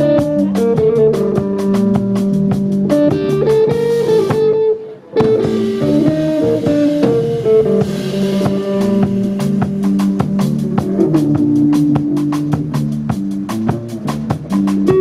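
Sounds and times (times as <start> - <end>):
bass guitar: 0.0 - 15.0
drum kit: 0.0 - 15.0
electric guitar notes: 0.0 - 15.0.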